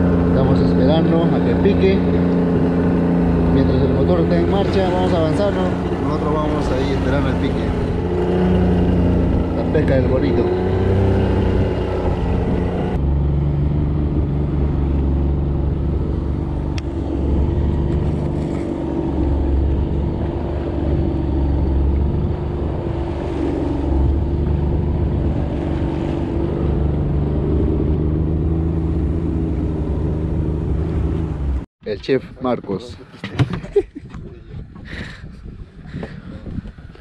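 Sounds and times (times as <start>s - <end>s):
boat engine droning: 0.0s - 31.7s.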